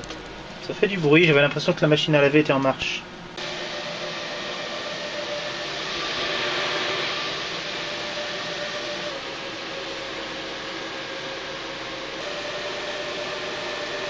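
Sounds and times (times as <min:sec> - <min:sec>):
cooling fans whooshing: 0:00.0 - 0:14.0.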